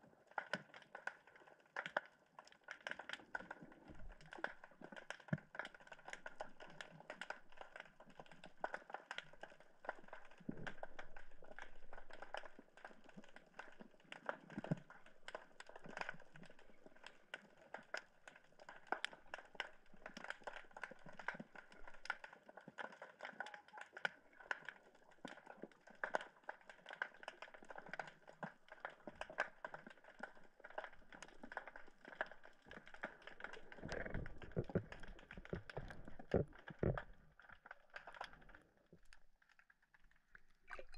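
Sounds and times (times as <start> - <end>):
snapping shrimp crackling underwater: 0.0 - 40.9.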